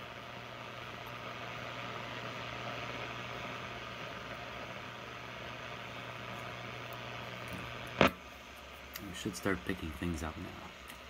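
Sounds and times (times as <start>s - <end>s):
radio static hiss: 0.0s - 11.0s
steady low hum: 0.0s - 11.0s.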